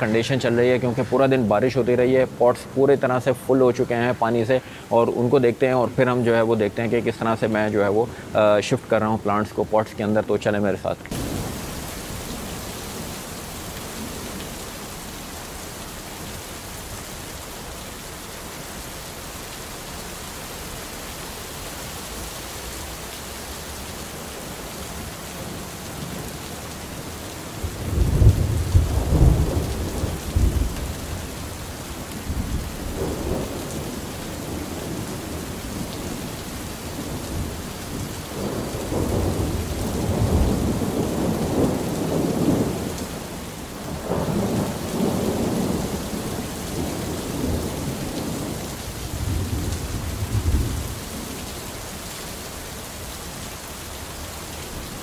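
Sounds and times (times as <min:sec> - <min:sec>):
rain on plants and water: 0:00.0 - 0:55.0.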